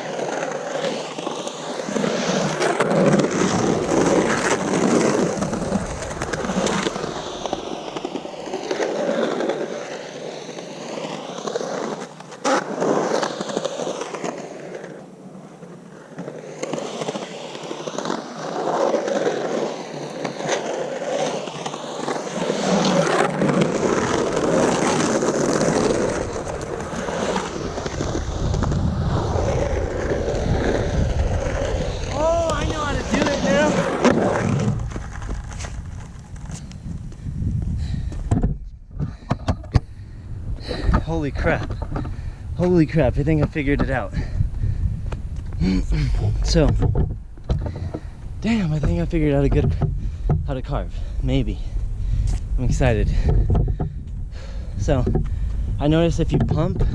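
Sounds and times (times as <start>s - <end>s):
skateboard wheels rolling: 0.0s - 56.9s.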